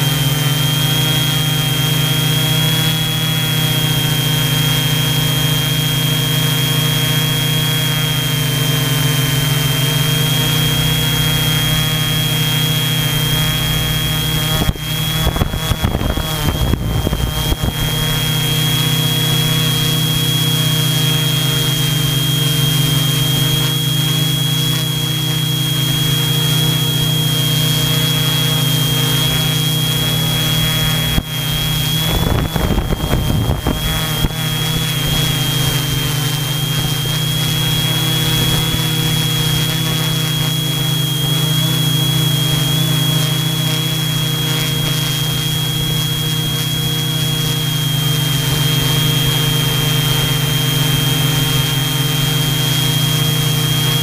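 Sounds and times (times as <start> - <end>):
drone motors and propellers: 0.0 - 54.0.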